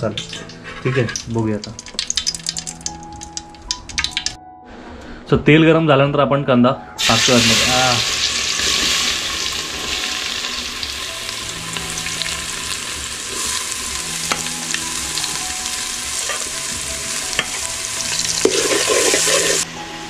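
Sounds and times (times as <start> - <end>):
onion sizzling in hot oil: 0.8 - 4.4, 7.0 - 19.9.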